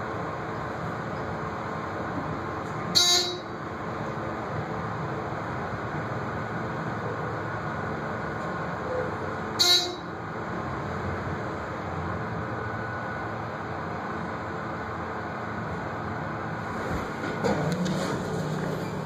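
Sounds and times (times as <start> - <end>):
elevator ride noise: 0.0 - 19.0.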